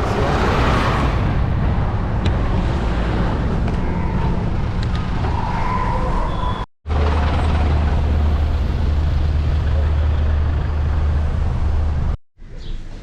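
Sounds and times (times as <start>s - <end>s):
road traffic rumble: 0.0s - 12.2s.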